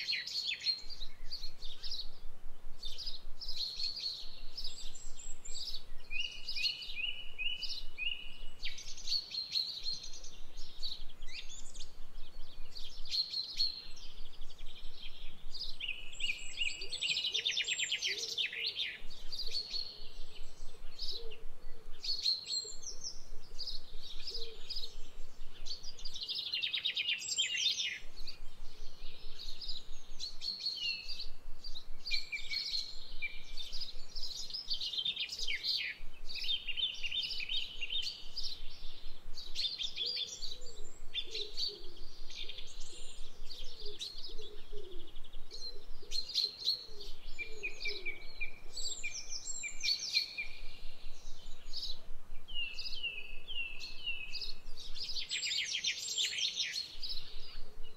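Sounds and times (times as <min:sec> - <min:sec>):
birds chirping and singing: 0:00.0 - 0:57.9.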